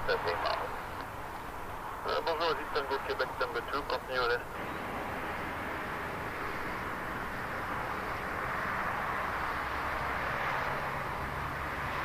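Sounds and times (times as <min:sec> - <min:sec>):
distant jet engines rushing: 0:00.0 - 0:12.0.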